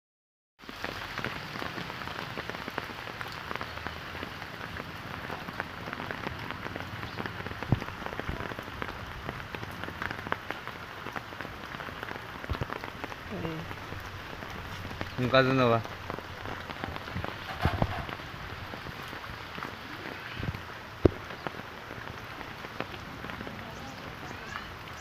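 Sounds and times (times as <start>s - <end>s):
rain pattering on a surface: 0.6s - 25.0s.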